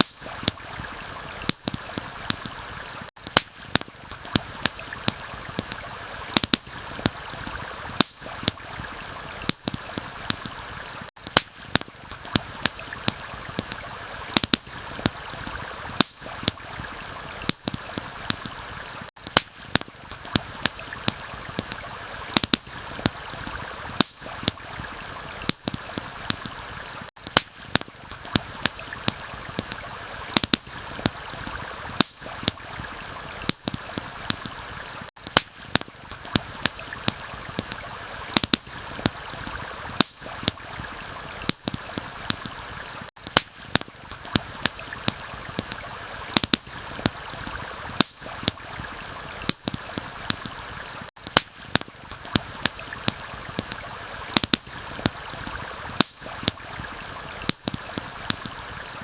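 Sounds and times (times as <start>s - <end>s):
campfire crackling and popping: 0.0s - 59.0s
stream flowing: 0.0s - 59.0s.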